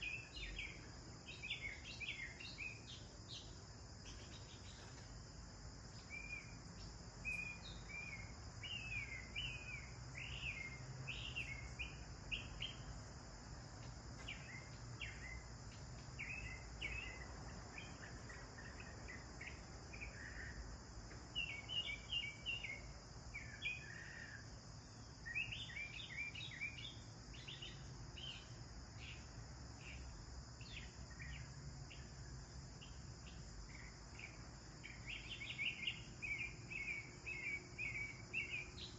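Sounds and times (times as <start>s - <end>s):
insects buzzing: 0.0s - 38.9s
sparrows chirping: 0.0s - 38.9s.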